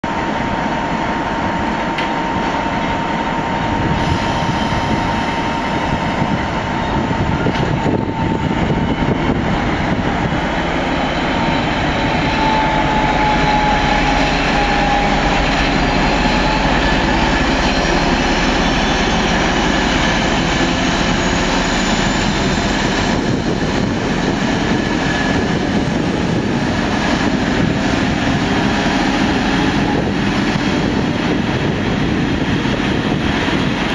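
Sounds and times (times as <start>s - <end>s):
train rolling on track: 0.0s - 33.9s
diesel locomotive engine running: 0.1s - 33.9s.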